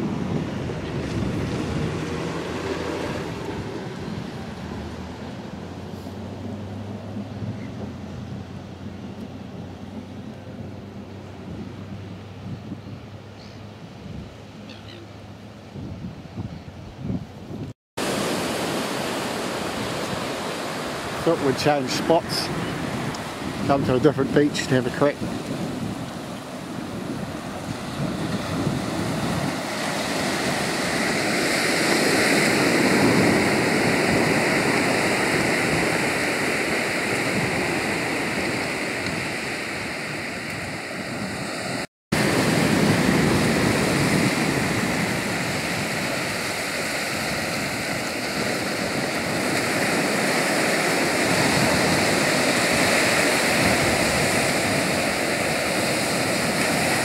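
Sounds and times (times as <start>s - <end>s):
surf breaking on sandy beach: 0.0s - 8.4s, 18.0s - 57.0s.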